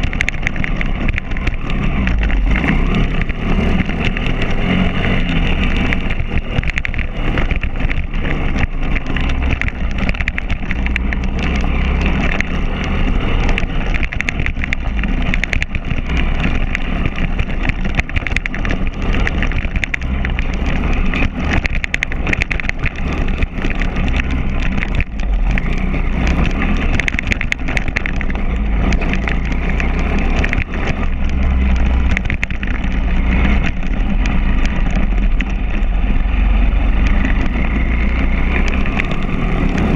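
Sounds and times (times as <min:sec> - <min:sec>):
pit bike engine revving: 0:00.0 - 0:39.9
rattles and knocks over bumps: 0:00.0 - 0:39.9.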